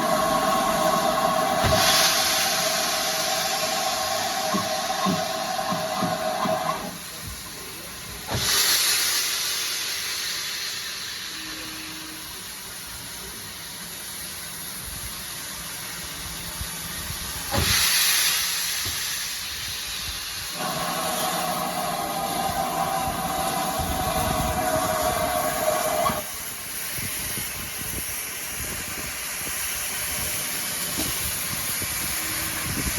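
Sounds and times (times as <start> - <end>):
steam locomotive hissing steam: 0.0 - 32.9.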